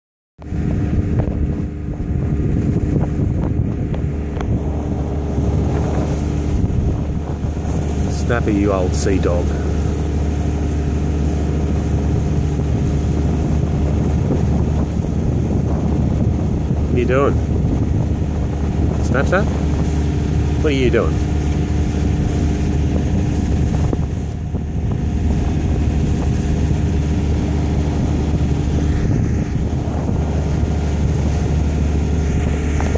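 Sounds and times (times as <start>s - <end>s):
boat engine droning: 0.4s - 32.9s
wind buffeting microphone: 0.4s - 32.9s.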